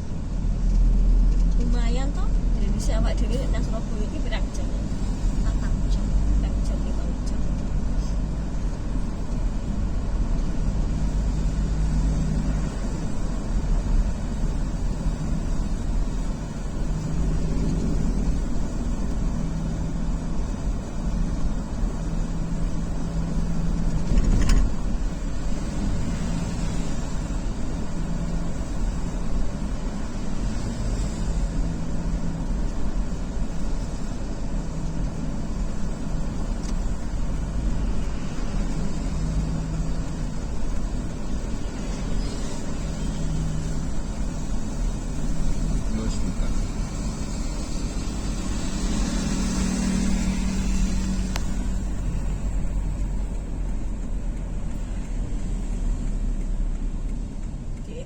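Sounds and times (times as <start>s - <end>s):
road vehicle rumble: 0.0s - 58.0s.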